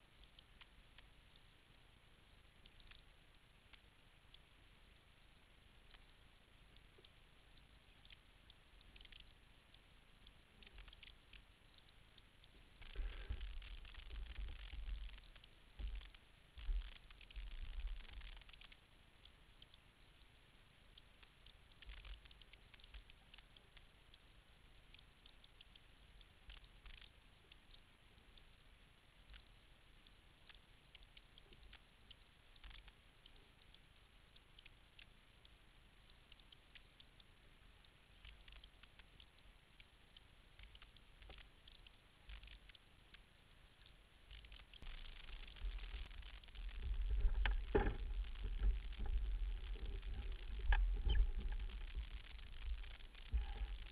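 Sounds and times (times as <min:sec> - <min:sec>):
small clicks and crackles: 0:00.0 - 0:53.9.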